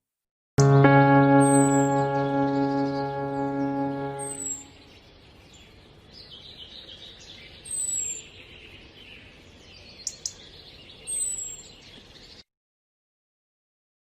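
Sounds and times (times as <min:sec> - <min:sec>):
birds twittering: 0:01.1 - 0:12.4.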